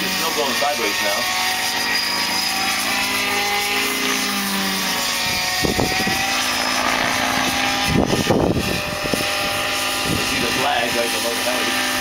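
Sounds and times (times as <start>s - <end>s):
model helicopter engine whine: 0.0s - 12.0s.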